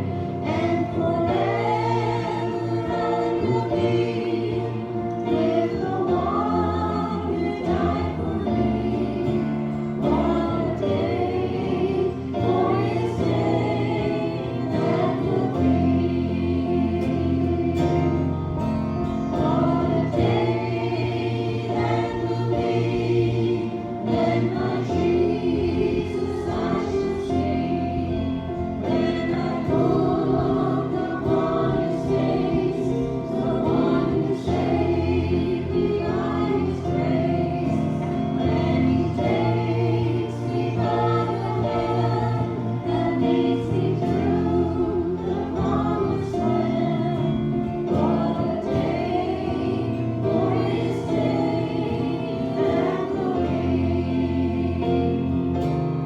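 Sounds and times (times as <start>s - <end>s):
accompanying music: 0.0s - 56.0s
group singing a hymn: 0.0s - 56.0s.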